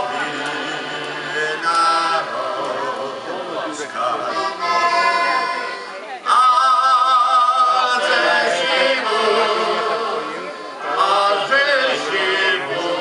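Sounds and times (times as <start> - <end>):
folk singers singing together: 0.0 - 13.0.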